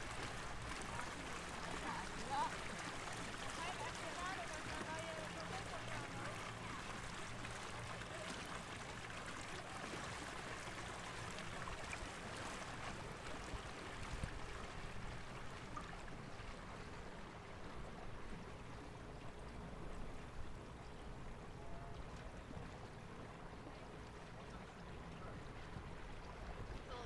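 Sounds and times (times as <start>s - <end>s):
water splashing along boat hull: 0.0s - 27.0s.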